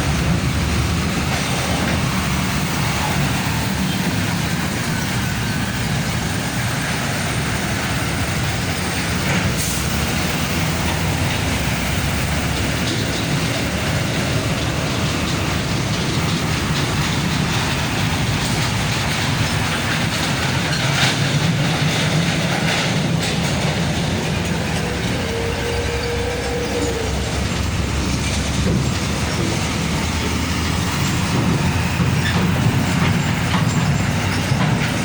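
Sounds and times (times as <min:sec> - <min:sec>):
heavy trucks rumbling: 0:00.0 - 0:35.0.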